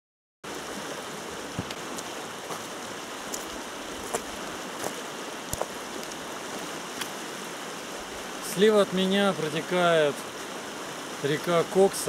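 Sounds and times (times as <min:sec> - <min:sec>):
river rushing over rapids: 0:00.5 - 0:12.0.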